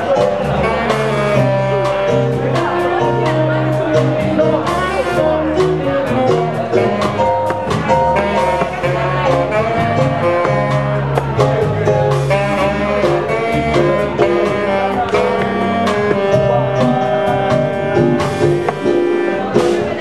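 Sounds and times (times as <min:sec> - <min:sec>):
drums and cymbals: 0:00.0 - 0:20.0
saxophone: 0:00.0 - 0:20.0
walking bass line: 0:00.0 - 0:20.0.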